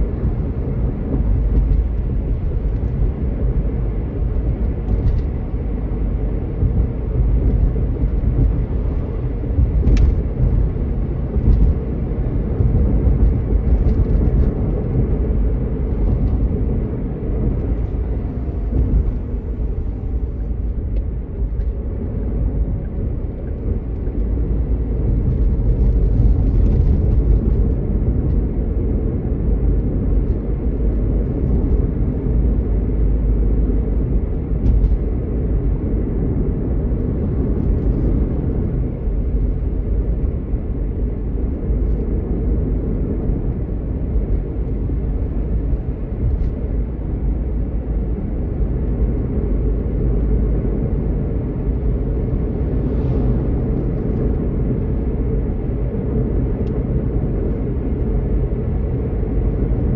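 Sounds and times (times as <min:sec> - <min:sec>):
car driving interior rumble: 0:00.0 - 0:59.9.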